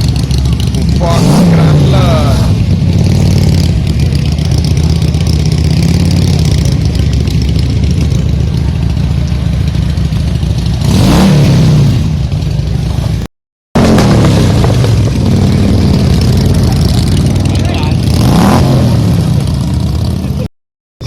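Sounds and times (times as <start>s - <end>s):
motorcycle engine idling: 0.0s - 11.0s, 12.0s - 13.3s, 14.8s - 18.2s, 19.1s - 20.5s.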